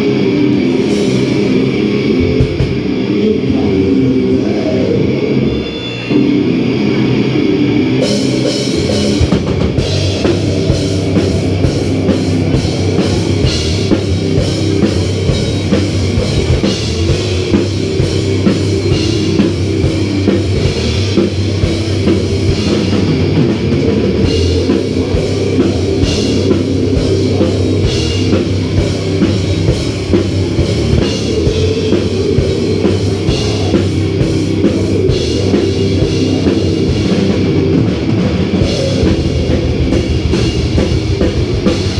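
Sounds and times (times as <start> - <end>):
live heavy metal band: 0.0 - 41.9.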